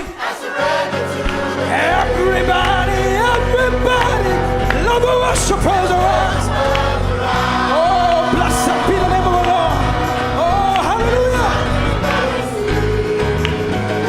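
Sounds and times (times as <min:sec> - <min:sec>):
gospel choir singing: 0:00.0 - 0:14.0
band with steady bass: 0:01.2 - 0:14.0.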